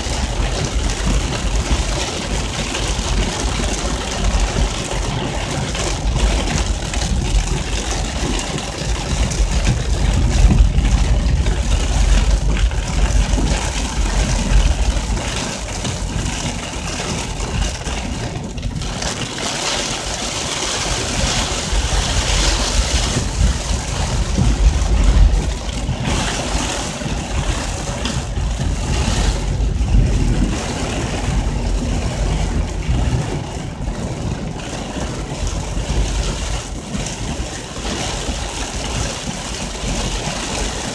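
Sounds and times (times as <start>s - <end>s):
wind rumbling: 0.0s - 40.9s.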